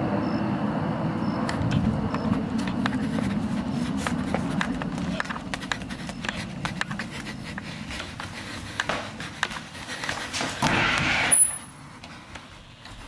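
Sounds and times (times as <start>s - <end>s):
hurried footsteps: 1.5s - 13.0s.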